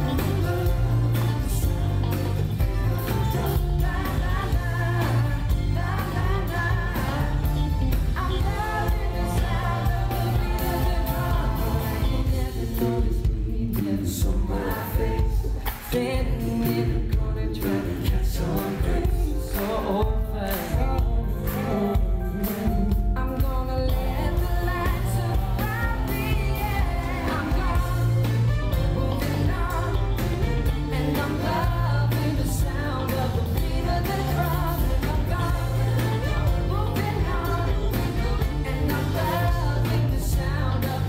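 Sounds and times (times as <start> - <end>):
band with bass and drums: 0.0 - 41.0
male vocal group singing: 0.0 - 41.0.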